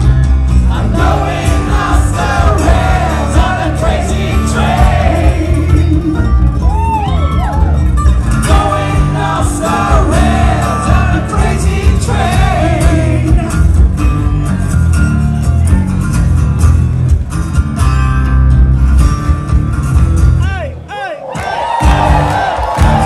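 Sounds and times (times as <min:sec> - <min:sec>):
acoustic guitars strummed hard: 0:00.0 - 0:20.5.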